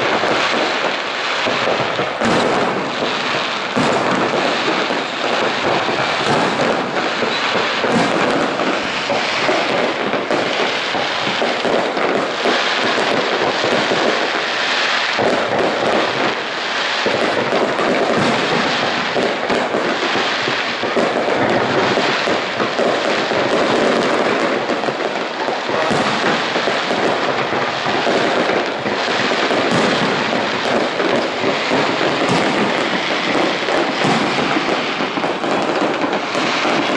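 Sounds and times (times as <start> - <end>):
firework crackles: 0.0 - 36.9
firework shells bursting: 0.0 - 36.9.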